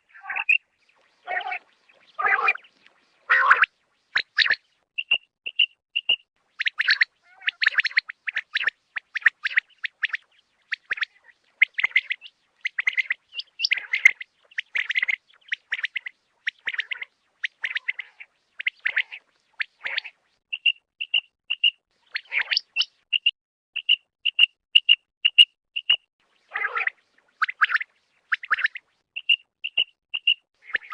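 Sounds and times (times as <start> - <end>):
quail calling: 0.0 - 25.0, 26.5 - 30.9.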